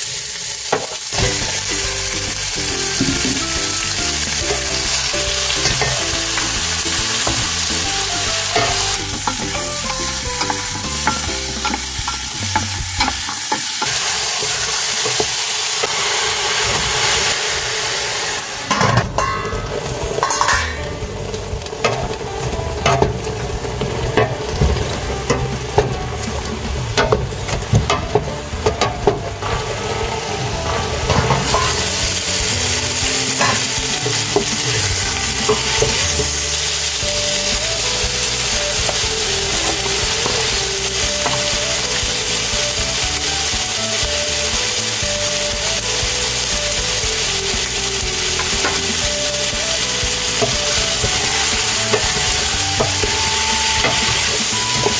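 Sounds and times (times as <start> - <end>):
meat sizzling: 0.0 - 54.9.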